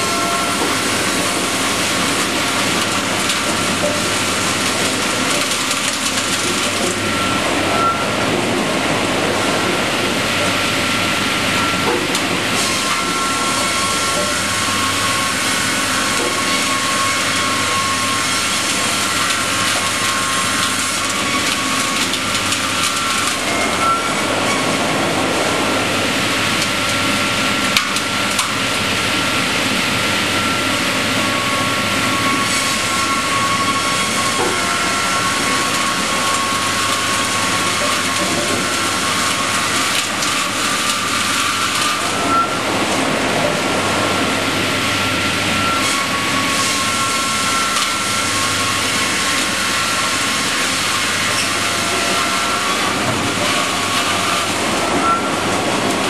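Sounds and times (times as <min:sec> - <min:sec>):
sawmill machinery whine: 0:00.0 - 0:56.0.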